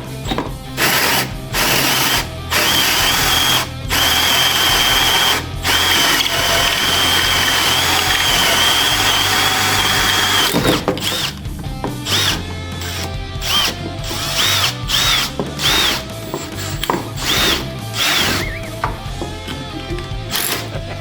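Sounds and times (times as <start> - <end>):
electric drill boring into wood: 0.1 - 20.8.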